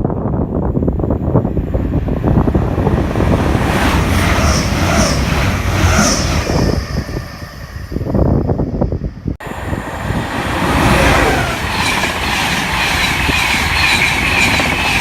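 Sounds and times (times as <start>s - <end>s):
train passing on rails: 0.0s - 15.0s.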